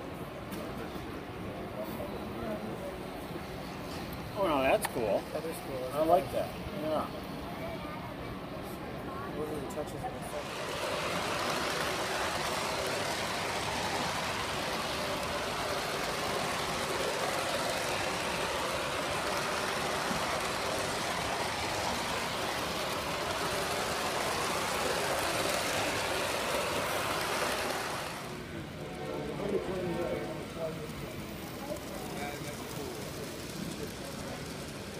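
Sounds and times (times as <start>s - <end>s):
model train running on track: 0.0s - 34.9s.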